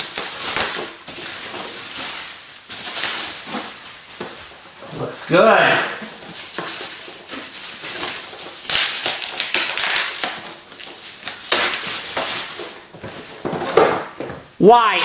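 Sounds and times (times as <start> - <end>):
plastic shrink-wrap crinkling and tearing: 0.0 - 14.2.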